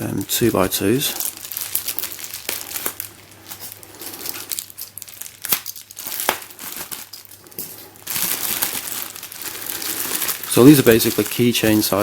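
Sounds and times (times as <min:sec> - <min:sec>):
packaging crinkling and tearing: 0:00.1 - 0:12.0.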